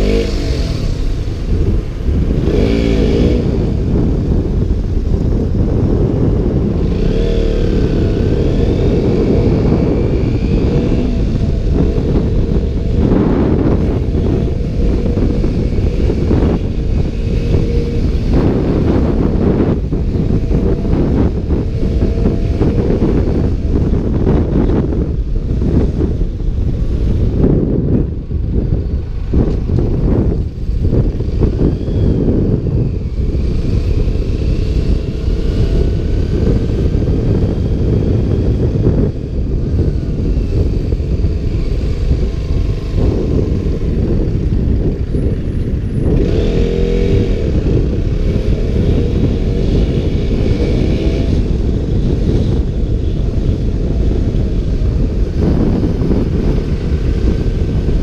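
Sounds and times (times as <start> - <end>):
motorcycle engine revving: 0.0 - 58.0
wind buffeting a microphone: 0.0 - 58.0.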